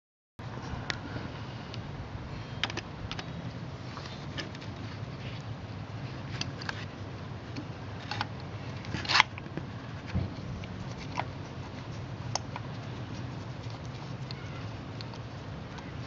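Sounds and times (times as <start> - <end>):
steady low hum: 0.4 - 16.0.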